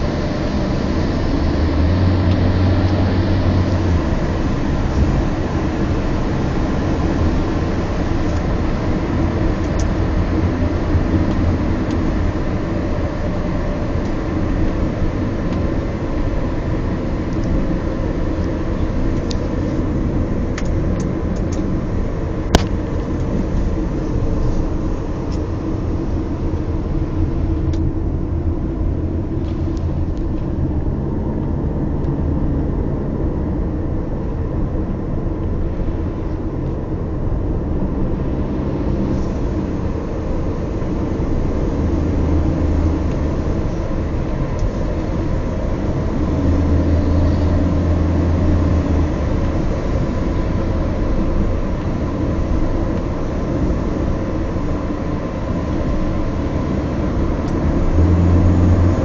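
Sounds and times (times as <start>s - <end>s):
car driving rumble: 0.0s - 59.0s.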